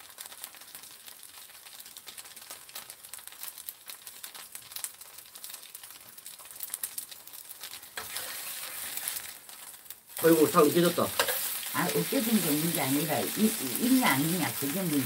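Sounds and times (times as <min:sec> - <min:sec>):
pancake crackling in oil: 0:00.0 - 0:15.0.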